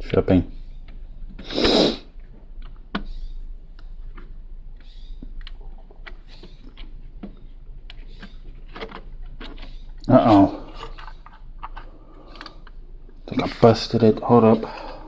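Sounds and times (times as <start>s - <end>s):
birds chirping faintly: 2.4s - 15.0s.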